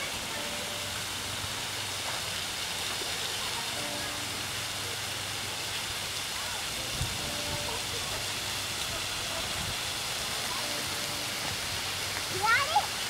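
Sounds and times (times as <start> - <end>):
fountain spray falling on water: 0.0 - 13.0.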